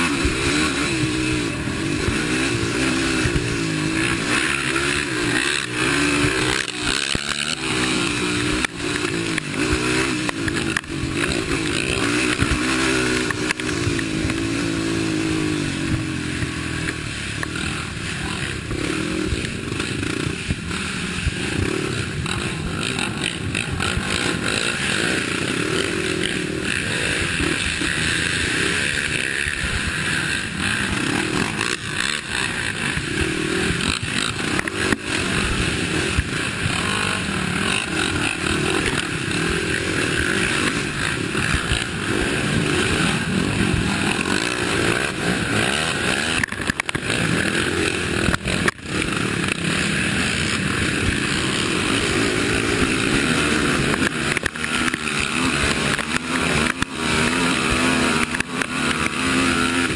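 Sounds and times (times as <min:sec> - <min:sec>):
quad engine running hard: 0:00.0 - 0:59.9.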